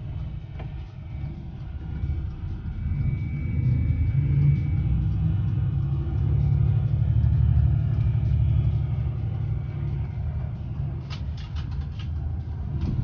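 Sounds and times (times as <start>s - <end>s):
coach engines rumbling: 0.0s - 13.0s.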